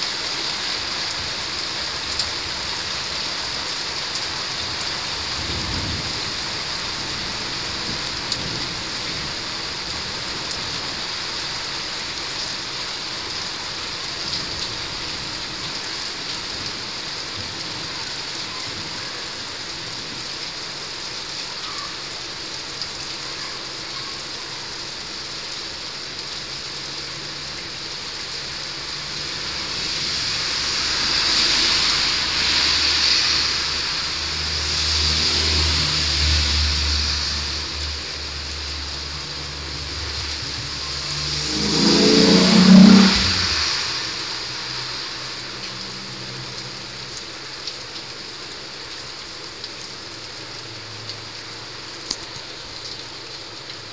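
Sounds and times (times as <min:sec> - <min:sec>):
heavy rain pouring on roofs: 0:00.0 - 0:53.9.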